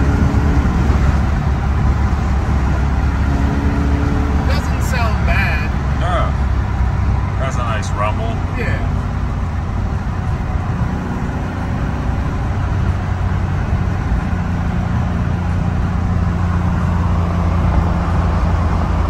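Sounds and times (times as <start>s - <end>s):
car engine drone and road noise: 0.0s - 19.0s.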